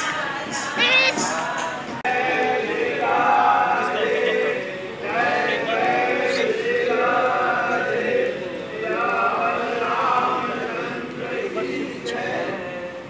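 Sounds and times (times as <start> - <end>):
group singing devotional song: 0.0 - 13.0.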